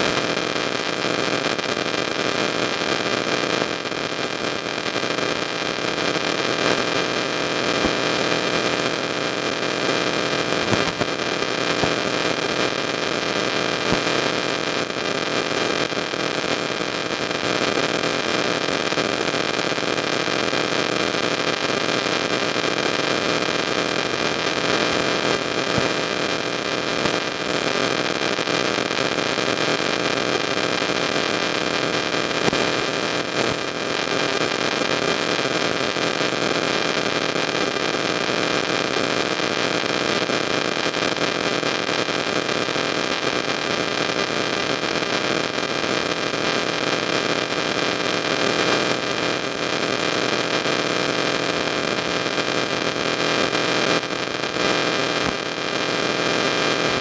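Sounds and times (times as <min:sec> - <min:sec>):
static-like hiss: 0:00.0 - 0:57.0.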